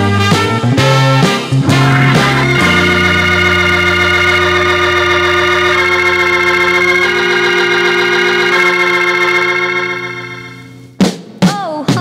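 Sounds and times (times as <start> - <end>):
organ sustained chords: 0.0 - 11.0.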